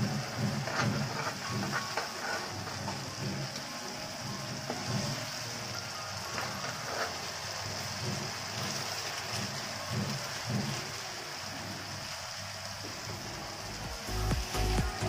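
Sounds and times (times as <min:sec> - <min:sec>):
masala sizzling in oil: 0:00.0 - 0:15.0.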